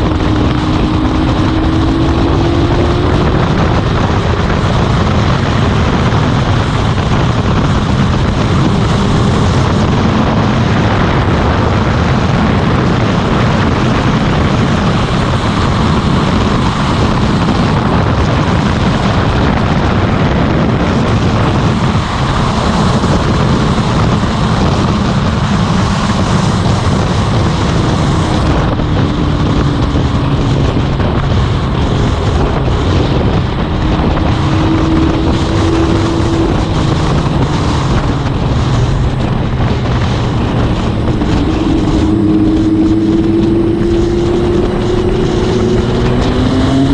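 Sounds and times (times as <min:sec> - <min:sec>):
motorcycle engine drone: 0:00.0 - 0:46.9
wind rush on microphone: 0:00.0 - 0:46.9.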